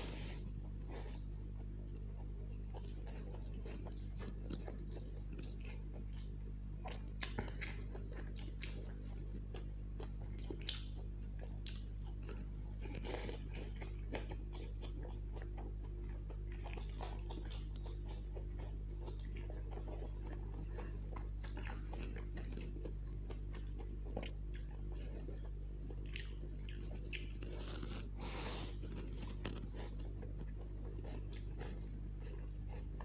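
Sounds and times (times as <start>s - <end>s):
close chewing with mouth clicks: 0.0s - 33.0s
steady low hum: 0.0s - 33.0s.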